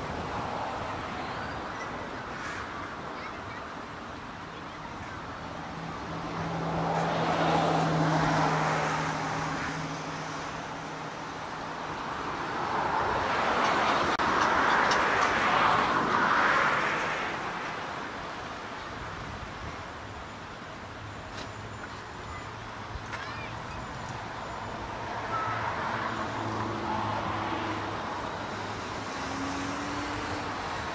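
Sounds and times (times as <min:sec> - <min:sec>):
cars passing: 0:00.0 - 0:30.9.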